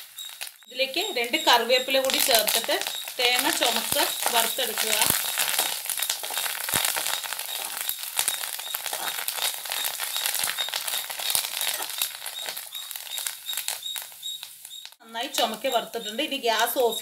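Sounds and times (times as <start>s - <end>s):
food crackling and sizzling in oil: 0.0s - 17.0s.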